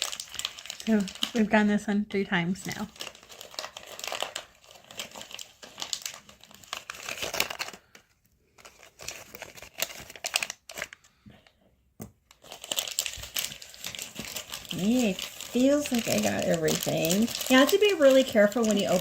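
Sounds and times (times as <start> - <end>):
wrapping tearing: 0.0 - 1.5, 2.7 - 11.2, 12.3 - 19.0
paper and plastic wrappings crinkling: 0.0 - 1.7, 2.6 - 11.5, 12.2 - 19.0.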